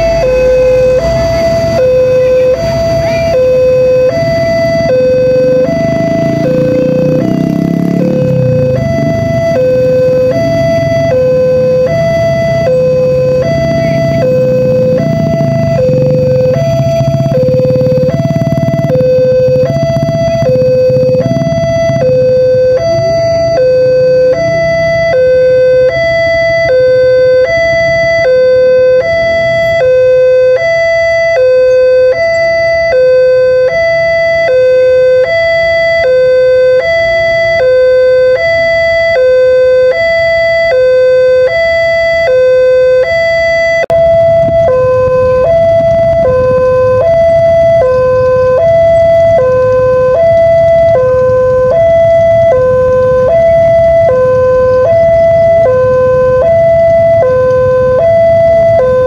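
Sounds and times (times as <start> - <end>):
two-tone level crossing alarm: 0.0 - 59.0.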